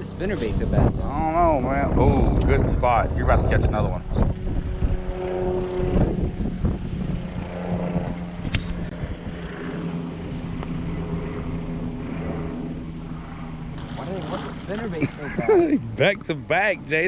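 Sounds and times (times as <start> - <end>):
wind rumbling on microphone: 0.0 - 15.2.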